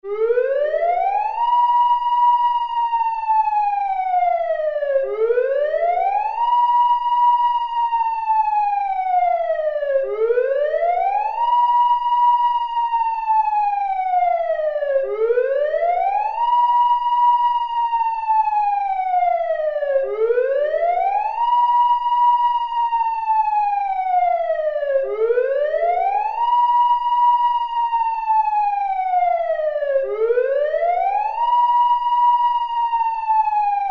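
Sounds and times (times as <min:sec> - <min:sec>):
siren wailing: 0:00.1 - 0:33.9.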